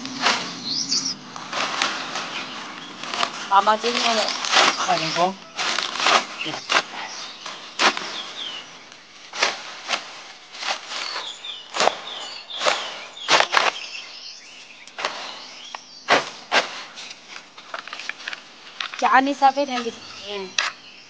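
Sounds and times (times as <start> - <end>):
leafy greens snapping and rustling: 0.0 - 20.8
birds chirping faintly: 0.0 - 21.0.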